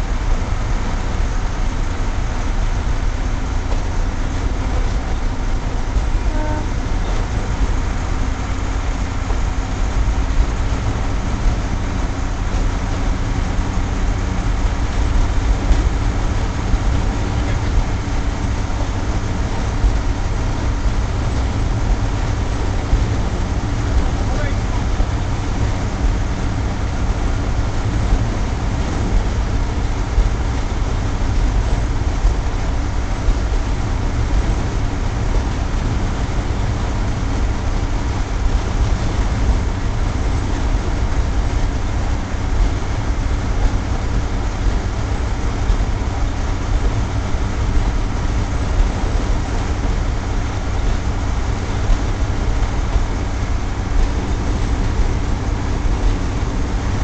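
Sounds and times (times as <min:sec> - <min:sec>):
diesel engine drone: 0:00.0 - 0:57.0
wheels on rails: 0:00.0 - 0:57.0.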